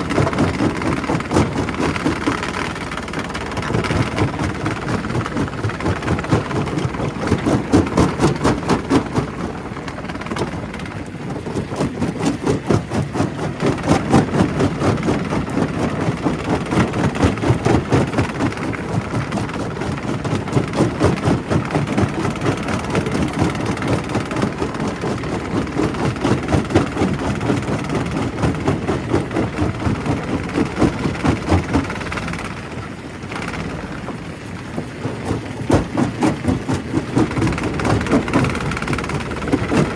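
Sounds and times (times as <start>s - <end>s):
rock crusher clattering and grinding: 0.0s - 39.9s.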